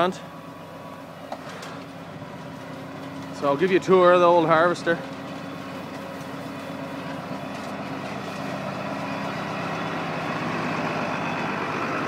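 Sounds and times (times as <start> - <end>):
harvester machinery noise: 0.0 - 12.0
tractor diesel engine running: 0.0 - 12.0.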